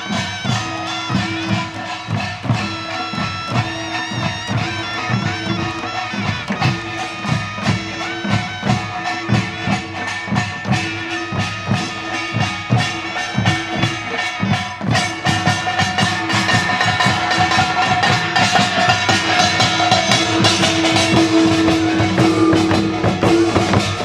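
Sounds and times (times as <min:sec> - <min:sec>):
percussion strokes: 0:00.0 - 0:24.0.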